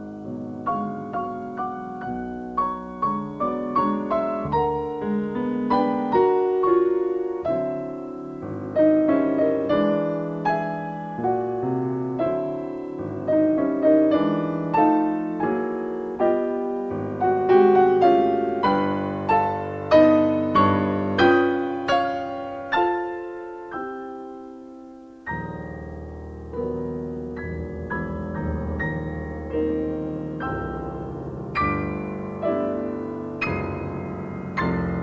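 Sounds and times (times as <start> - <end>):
solo piano classical piece: 0.0 - 35.0.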